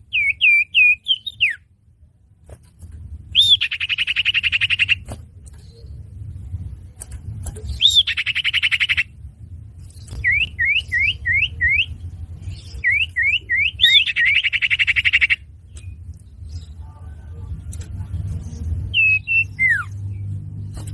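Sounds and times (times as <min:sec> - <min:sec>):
bird calls and trills: 0:00.0 - 0:01.7, 0:03.3 - 0:20.9
low steady hum: 0:00.0 - 0:20.9.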